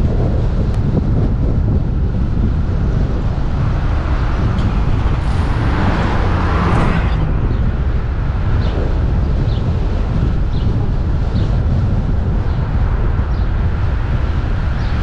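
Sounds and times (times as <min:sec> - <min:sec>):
road noise: 0:00.0 - 0:15.0
wind rumbling on microphone: 0:00.0 - 0:15.0.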